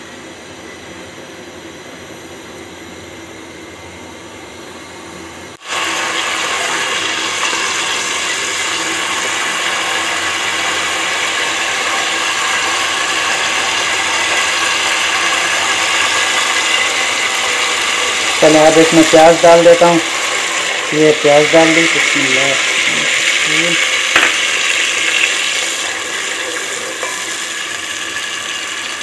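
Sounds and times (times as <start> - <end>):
seeds sizzling in hot oil: 5.6 - 29.0.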